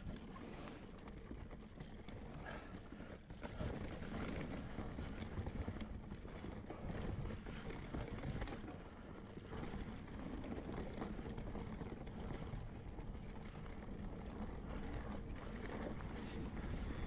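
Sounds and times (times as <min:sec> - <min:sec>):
tyres rolling on trail: 0:00.0 - 0:17.0.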